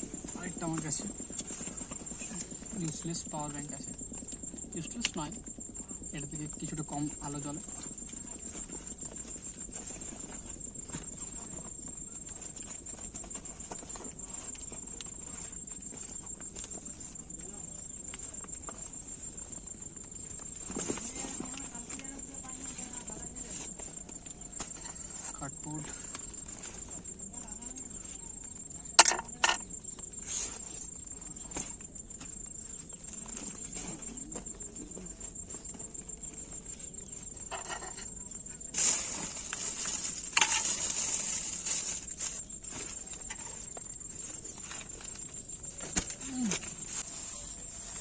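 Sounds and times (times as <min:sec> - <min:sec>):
soft rustle: 0:00.0 - 0:04.7, 0:06.8 - 0:28.6, 0:29.8 - 0:48.0
high-pitched insect trill: 0:00.0 - 0:48.0.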